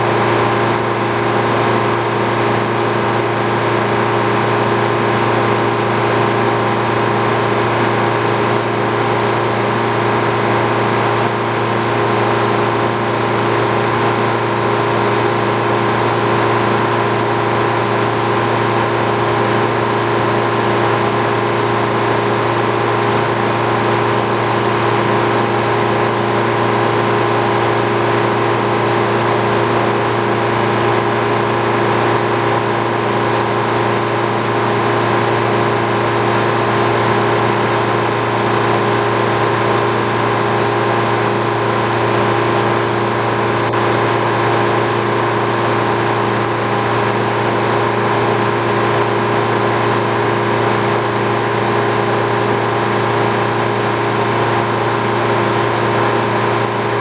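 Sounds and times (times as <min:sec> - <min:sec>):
sawmill humming and whining: 0:00.0 - 0:57.0.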